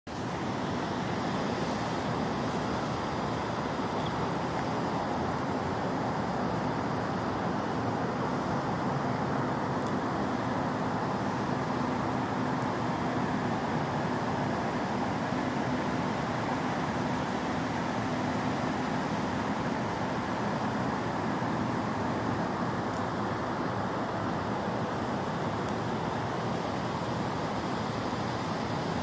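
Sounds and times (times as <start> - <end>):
city background rumble: 0.1 - 29.0.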